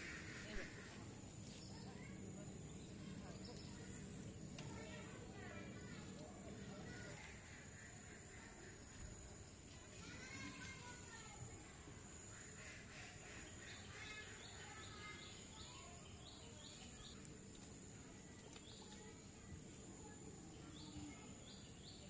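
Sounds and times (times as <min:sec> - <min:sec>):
steady high-pitched hum: 0:00.0 - 0:22.0.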